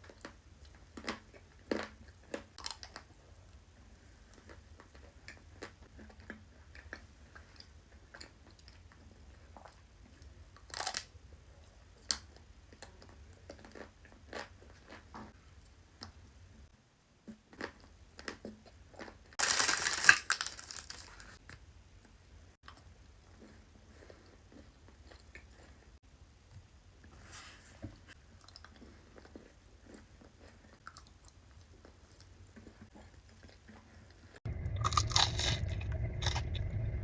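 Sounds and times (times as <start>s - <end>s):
chocolate crunching and chewing: 0.0s - 16.3s, 17.2s - 26.0s, 28.1s - 37.0s.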